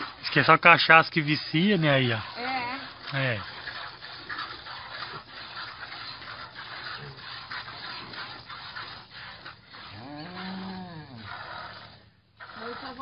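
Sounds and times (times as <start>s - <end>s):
piglet sucking: 0.0s - 0.6s, 1.2s - 13.0s.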